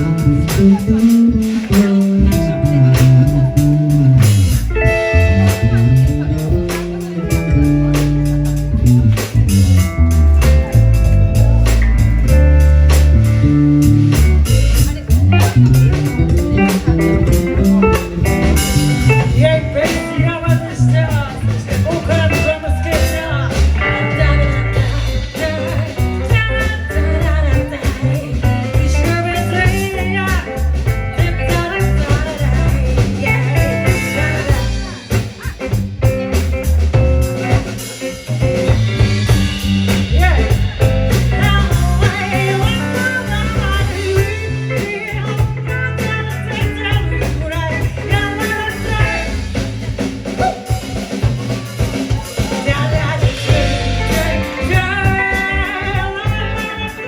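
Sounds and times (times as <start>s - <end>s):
person singing: 0.0s - 36.1s, 37.2s - 49.5s, 50.3s - 57.0s
bass line: 0.0s - 57.0s
blues rock band playing: 0.0s - 57.0s
drum kit: 0.0s - 57.0s
guitar: 0.0s - 57.0s.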